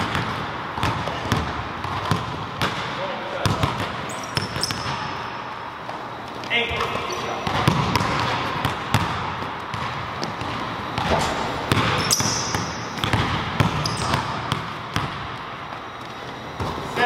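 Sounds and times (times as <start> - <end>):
basketballs bouncing on hardwood: 0.0 - 5.2, 6.7 - 15.8, 16.5 - 16.9.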